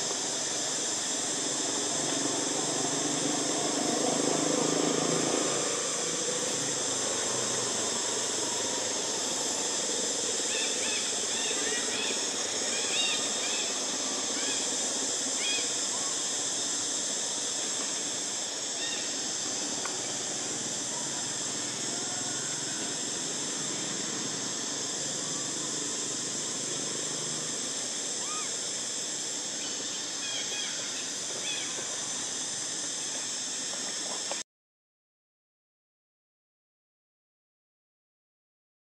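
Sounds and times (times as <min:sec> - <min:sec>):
high-pitched insect drone: 0:00.0 - 0:34.4.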